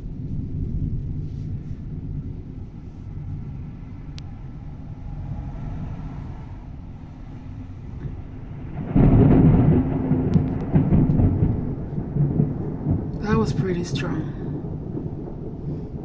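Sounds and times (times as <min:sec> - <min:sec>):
loud thunderclap: 0:00.0 - 0:16.0
low thunder rumble: 0:00.0 - 0:16.0.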